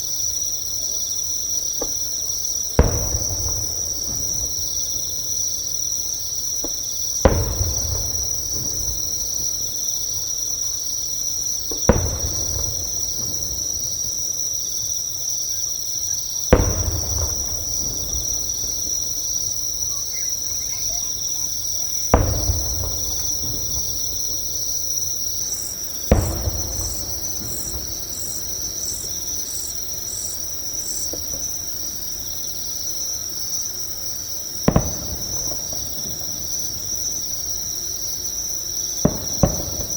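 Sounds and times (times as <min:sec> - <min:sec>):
insect pulsing chirp: 0:00.0 - 0:39.9
insects trilling: 0:00.0 - 0:39.9
distant fireworks bangs: 0:01.6 - 0:31.8, 0:34.5 - 0:37.8, 0:39.0 - 0:39.9.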